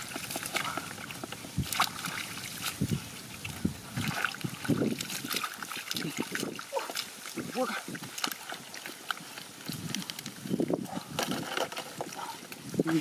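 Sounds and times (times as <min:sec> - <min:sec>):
hands splashing in muddy water: 0:00.0 - 0:10.4.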